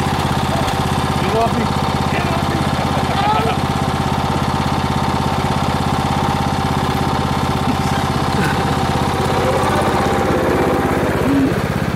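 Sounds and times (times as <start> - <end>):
lawn mower engine idling: 0.0 - 11.9.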